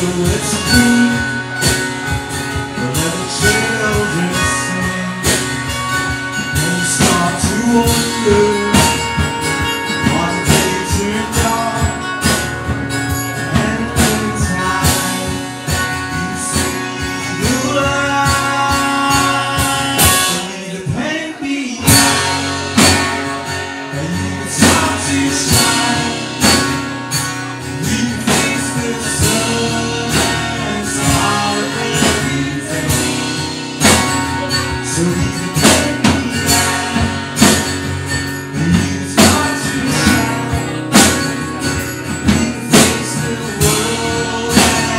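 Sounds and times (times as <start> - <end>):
drum kit with cymbals: 0.0 - 21.1, 21.8 - 44.9
acoustic guitars strummed: 0.0 - 44.9
man singing: 0.0 - 44.9.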